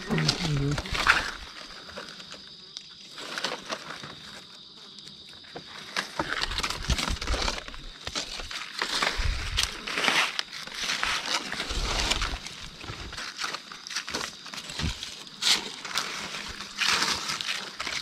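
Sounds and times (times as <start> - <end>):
high insect drone: 0.0 - 18.0
leaves and twigs rustling: 0.0 - 18.0.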